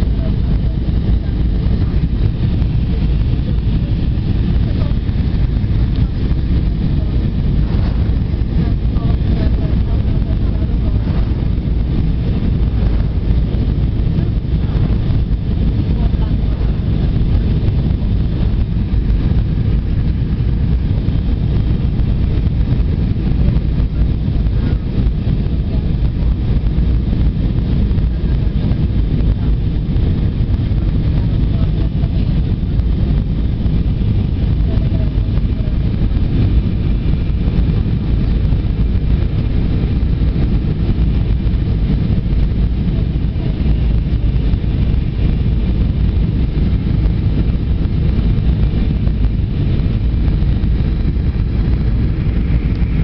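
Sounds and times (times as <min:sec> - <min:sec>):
airplane cabin engine rumble: 0:00.0 - 0:53.0.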